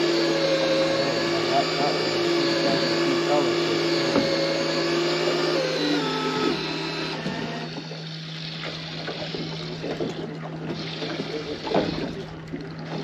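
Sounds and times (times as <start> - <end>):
fishing reel motor whining: 0.0 - 13.0.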